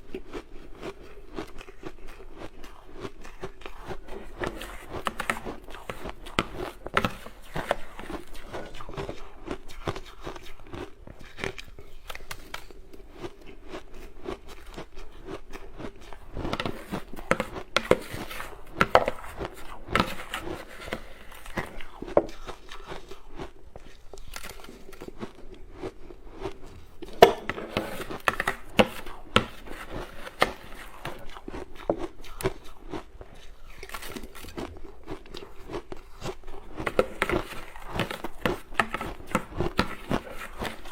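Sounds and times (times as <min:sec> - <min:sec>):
person chewing ice: 0:00.0 - 0:40.9.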